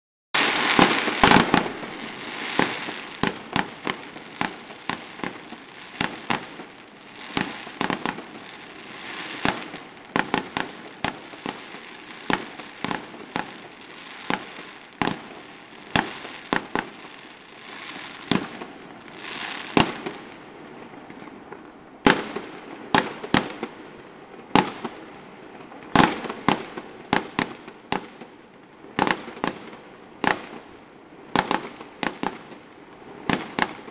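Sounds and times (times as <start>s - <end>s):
fireworks bangs: 0.4s - 23.8s, 24.4s - 28.3s, 28.9s - 33.9s
fireworks crackle: 0.4s - 33.9s.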